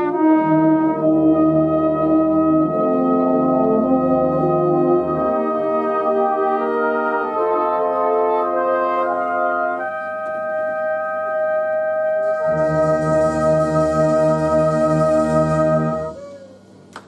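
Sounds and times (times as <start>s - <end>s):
brass band playing chords: 0.0s - 16.2s
flugelhorn solo: 0.0s - 16.2s.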